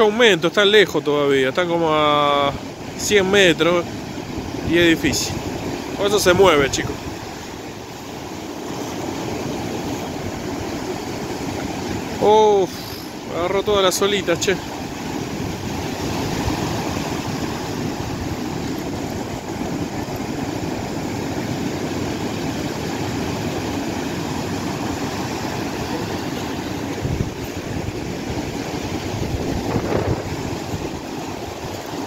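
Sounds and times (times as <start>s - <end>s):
ocean surf breaking: 0.0s - 32.0s.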